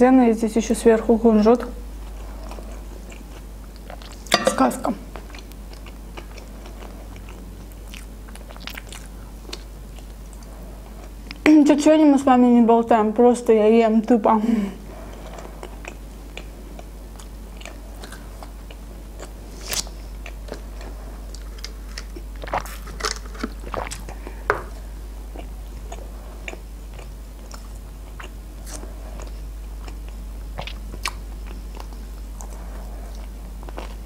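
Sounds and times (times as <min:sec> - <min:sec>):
steady low hum: 0:00.0 - 0:34.0
chewing crunchy fried chicken: 0:01.8 - 0:04.4, 0:05.0 - 0:11.5, 0:14.8 - 0:34.0.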